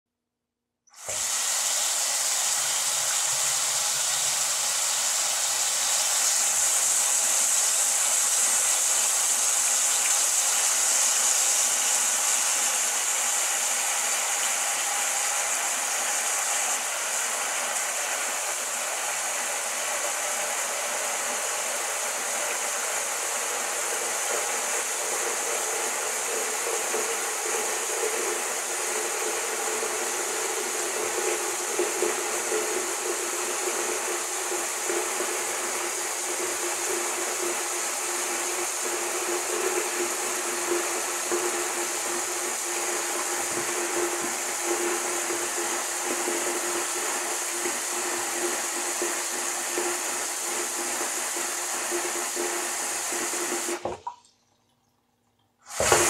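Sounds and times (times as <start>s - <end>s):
water faucet running into sink: 0.9s - 54.8s, 55.6s - 56.0s.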